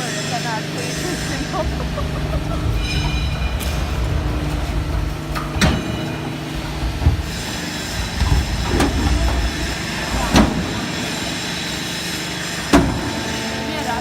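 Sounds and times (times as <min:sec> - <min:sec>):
baler machine droning: 0:00.0 - 0:14.0
high machine whine: 0:00.0 - 0:14.0.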